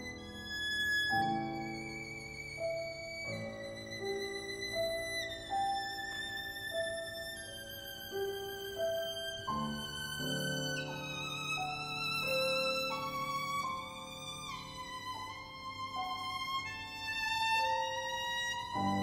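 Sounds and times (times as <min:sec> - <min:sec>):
piano accompaniment: 0:00.0 - 0:19.0.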